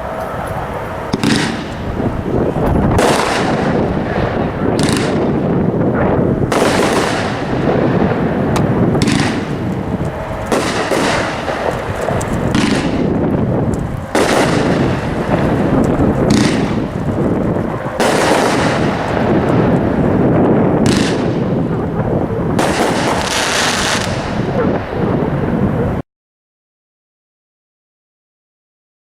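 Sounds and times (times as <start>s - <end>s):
fireworks bangs: 0.0s - 26.0s
rumble of fireworks shots: 0.0s - 26.0s.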